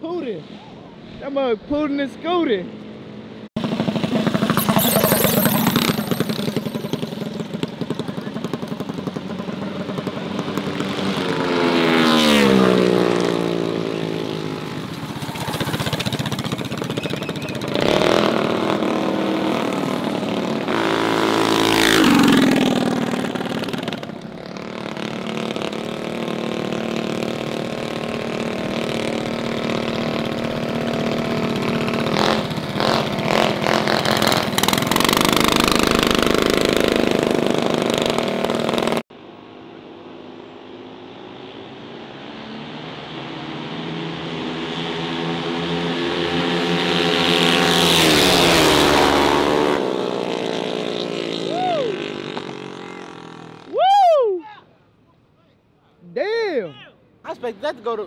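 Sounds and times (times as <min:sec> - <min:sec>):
mini bikes passing by: 0:01.8 - 0:54.2, 0:56.2 - 0:58.0.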